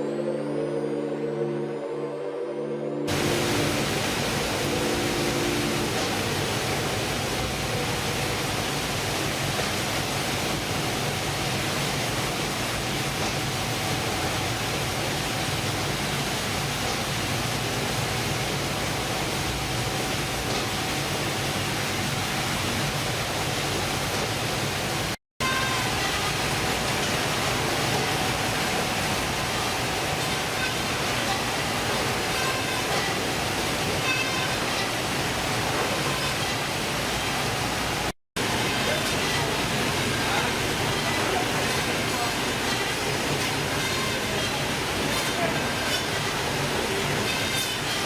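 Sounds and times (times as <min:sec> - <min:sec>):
loud steady rushing noise: 0:00.0 - 0:25.2, 0:25.8 - 0:48.0.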